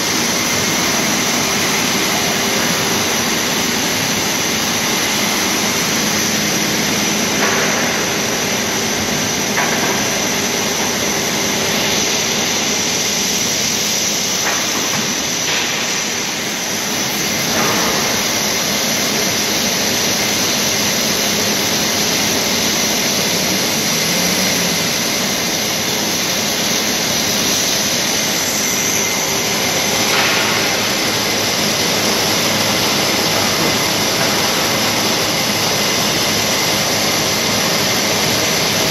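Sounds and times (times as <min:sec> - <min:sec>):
conveyor mechanical drone: 0:00.0 - 0:38.9.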